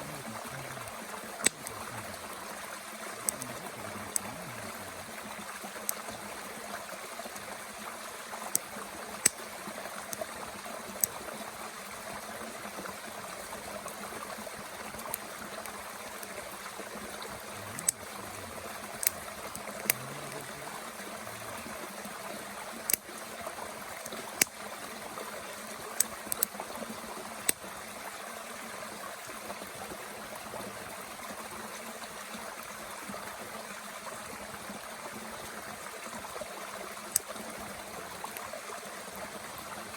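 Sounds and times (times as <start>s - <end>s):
mountain stream running: 0.0s - 39.9s
wood crackling in a twig stove: 0.2s - 28.2s, 34.3s - 39.7s.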